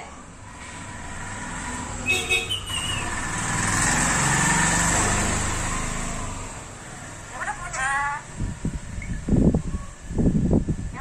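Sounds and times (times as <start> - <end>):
motor vehicle passing: 0.2 - 9.7.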